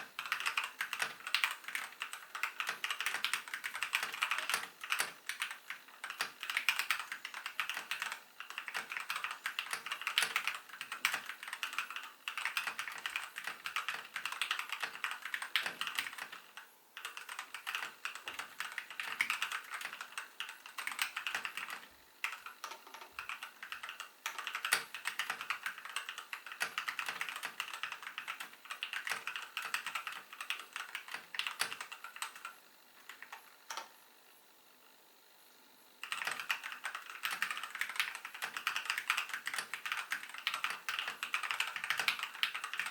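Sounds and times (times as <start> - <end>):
mechanical keyboard typing: 0.0 - 33.9, 36.0 - 42.9.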